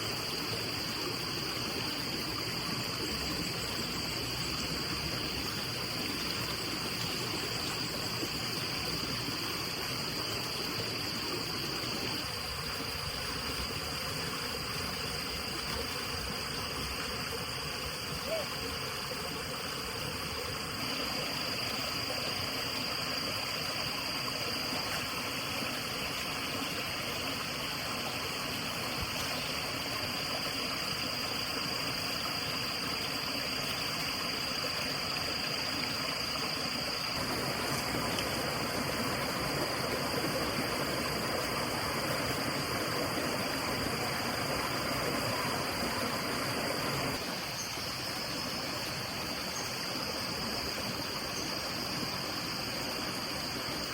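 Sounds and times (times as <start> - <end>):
flowing water rushing: 0.0 - 53.9.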